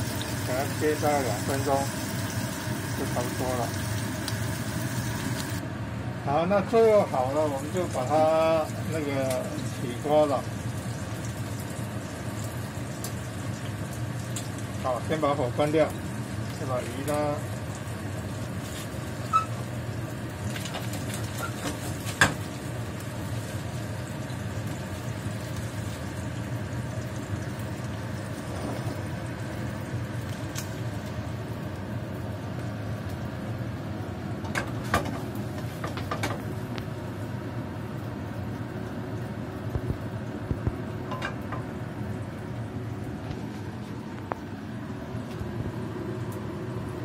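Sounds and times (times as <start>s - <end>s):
range hood fan hum: 0.0s - 47.0s.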